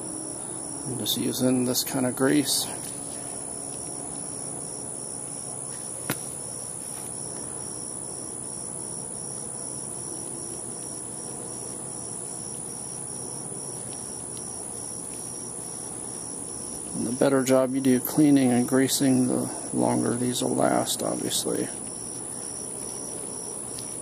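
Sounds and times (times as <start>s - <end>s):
crickets trilling: 0.0s - 24.0s
pulsing cricket chirp: 0.0s - 24.0s.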